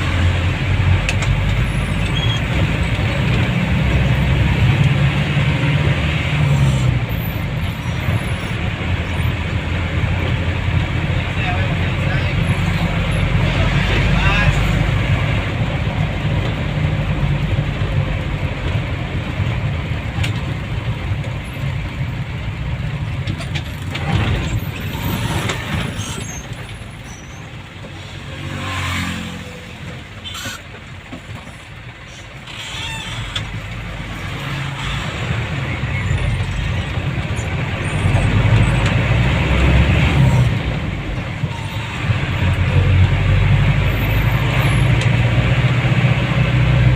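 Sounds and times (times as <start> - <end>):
vehicle engine and road rumble: 0.0 - 46.9.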